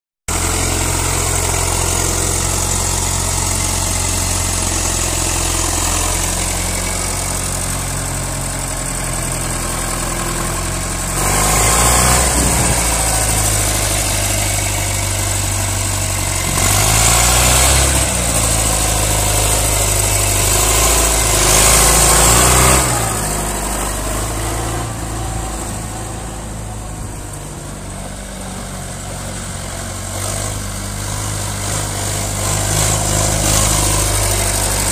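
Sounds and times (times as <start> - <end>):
tractor diesel engine revving: 0.3 - 34.9.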